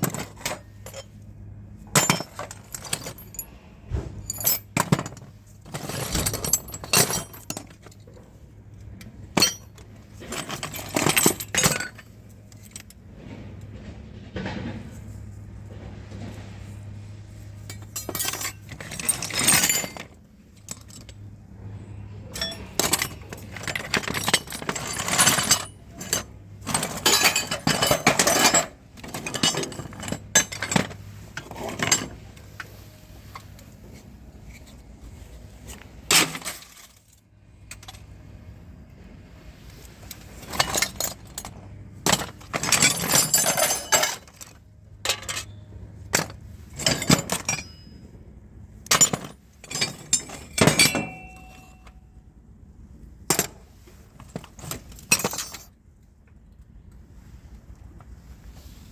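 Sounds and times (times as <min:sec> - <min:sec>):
metal tools clinking and rattling: 0:00.0 - 0:01.2, 0:01.8 - 0:15.2, 0:15.8 - 0:38.1, 0:39.7 - 0:48.2, 0:48.8 - 0:52.2, 0:53.3 - 0:55.8.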